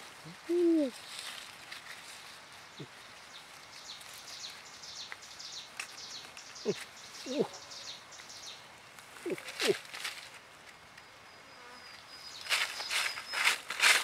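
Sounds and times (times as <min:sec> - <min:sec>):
small birds chirping and twittering: 0:00.8 - 0:09.8, 0:10.9 - 0:13.7.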